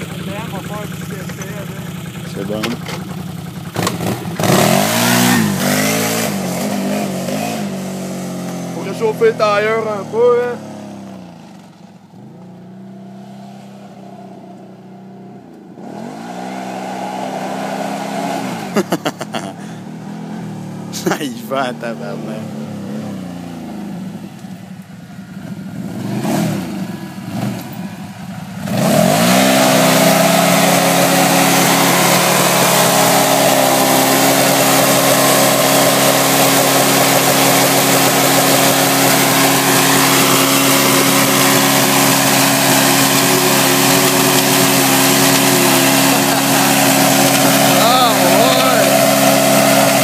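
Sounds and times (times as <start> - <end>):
tyres spinning on asphalt: 0.0 - 14.8, 15.8 - 50.0
atv engine revving: 0.0 - 50.0.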